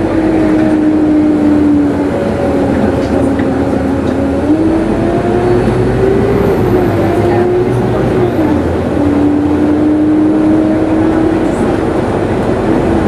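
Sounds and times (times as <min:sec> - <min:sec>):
bus engine whine: 0:00.0 - 0:13.0
bus rumble: 0:00.0 - 0:13.0.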